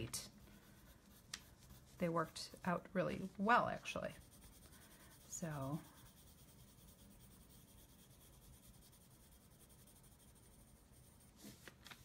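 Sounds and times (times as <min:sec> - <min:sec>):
pencil scratching on paper: 0:00.0 - 0:11.5.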